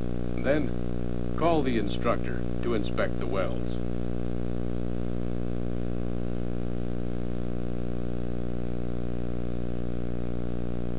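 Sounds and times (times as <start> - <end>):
electrical mains hum: 0.0 - 10.9
faint high whine: 0.0 - 10.9.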